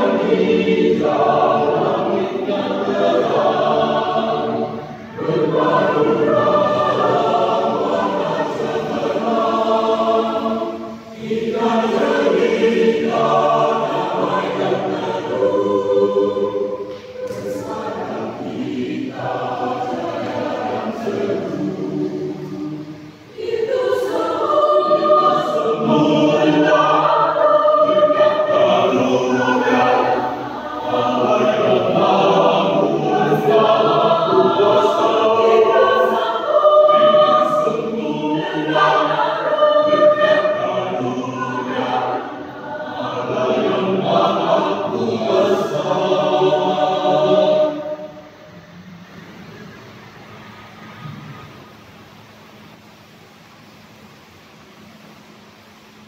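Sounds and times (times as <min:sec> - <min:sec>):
mixed choir singing a hymn: 0:00.0 - 0:51.5.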